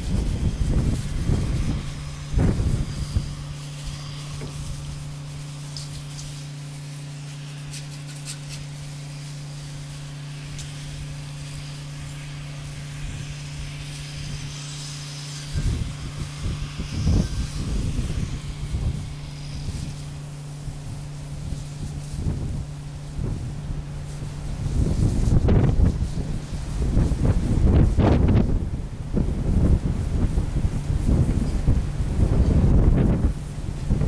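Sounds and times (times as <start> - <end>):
wind buffeting microphone: 0.0 - 7.0, 10.4 - 34.0
pump humming: 0.0 - 34.0
spray wand hiss: 0.0 - 34.0.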